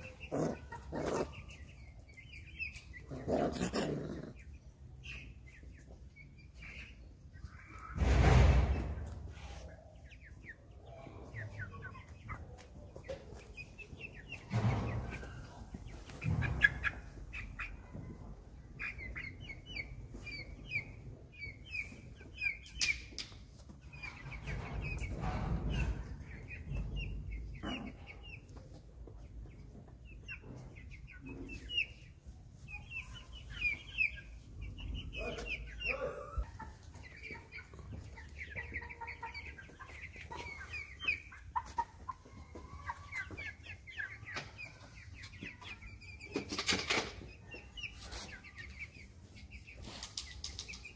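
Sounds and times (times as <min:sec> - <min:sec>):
chickens clucking: 0:00.0 - 0:50.9.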